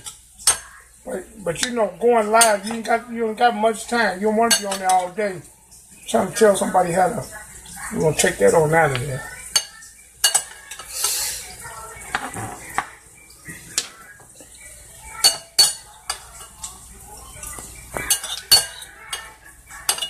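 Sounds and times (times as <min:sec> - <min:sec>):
metal utensils clinking against pot: 0:00.0 - 0:00.8, 0:01.4 - 0:20.0.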